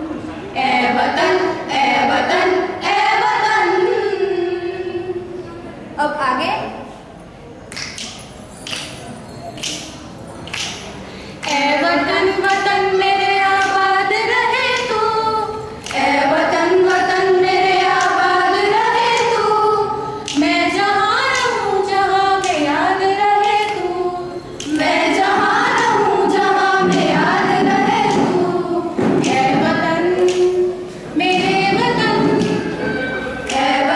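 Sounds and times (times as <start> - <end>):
girls singing unaccompanied: 0.0 - 5.7, 11.4 - 33.9.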